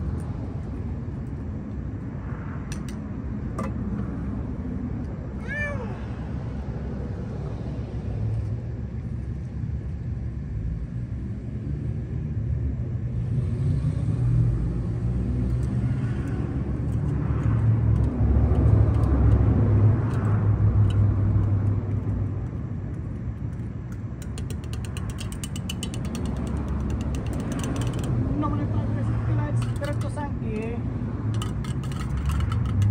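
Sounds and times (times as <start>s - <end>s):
motor vehicle rumbling: 0.0s - 32.9s.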